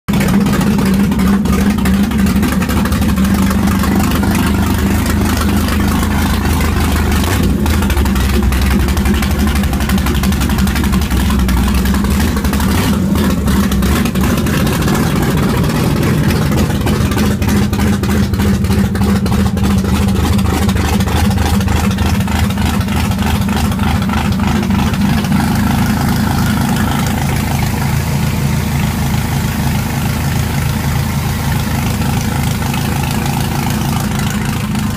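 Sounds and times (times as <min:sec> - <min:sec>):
boat engine idling: 0:00.0 - 0:34.9.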